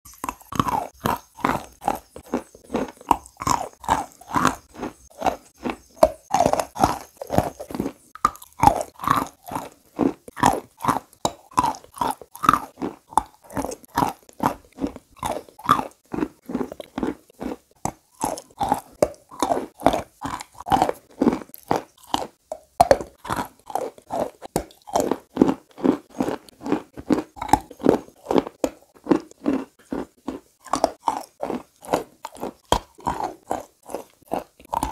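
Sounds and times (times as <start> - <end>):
chalk crunching being chewed: 0.1 - 34.9.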